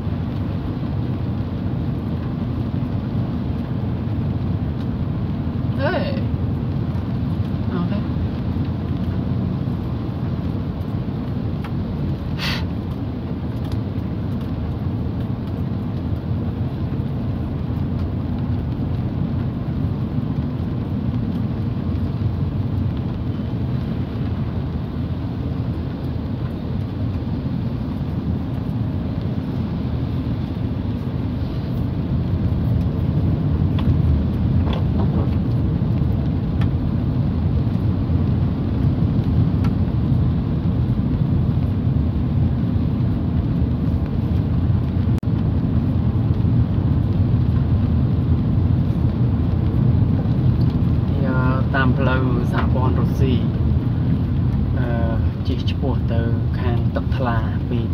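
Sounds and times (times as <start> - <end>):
car driving on wet road: 0.0 - 57.9.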